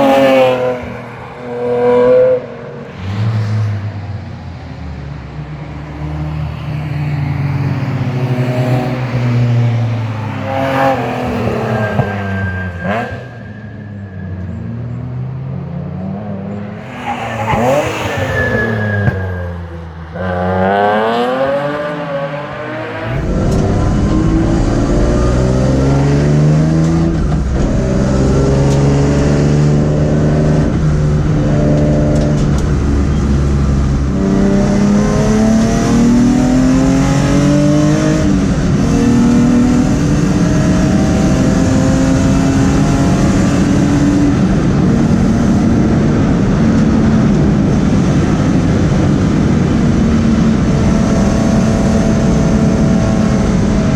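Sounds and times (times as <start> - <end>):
car engine driven hard: 0.0 - 53.9.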